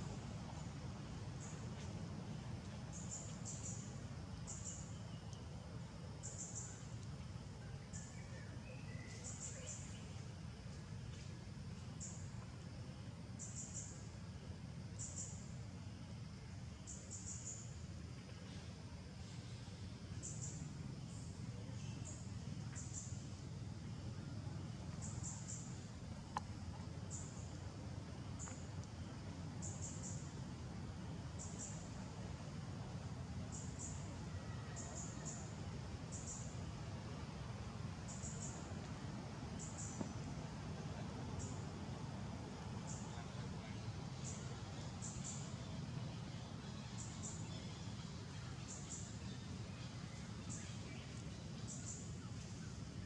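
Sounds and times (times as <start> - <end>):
low steady rumble: 0.0 - 53.0.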